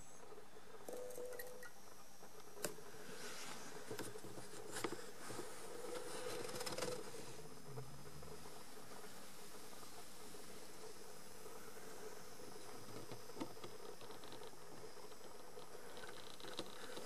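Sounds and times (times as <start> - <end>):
fluorescent tube hum: 0.0 - 17.0.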